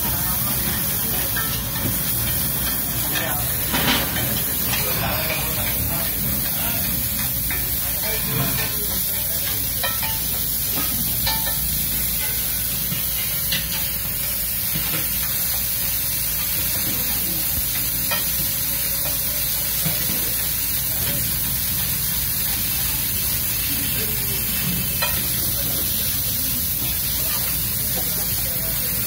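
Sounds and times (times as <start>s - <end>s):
food sizzling in hot oil: 0.0s - 29.0s
spatula scraping griddle: 0.0s - 29.0s.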